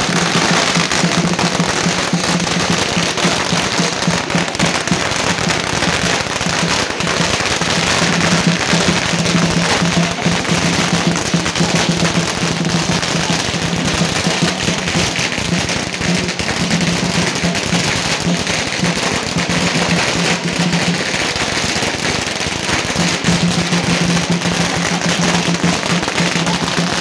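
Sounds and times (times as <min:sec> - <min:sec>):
firecrackers popping: 0:00.0 - 0:27.0.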